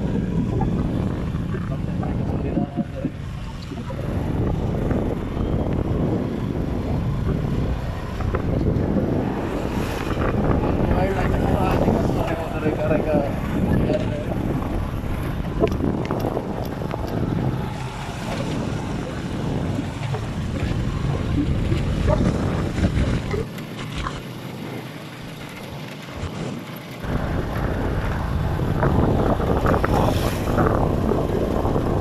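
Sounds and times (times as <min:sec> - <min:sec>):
vehicle road rumble: 0:00.0 - 0:32.0
wind buffeting microphone: 0:00.0 - 0:32.0.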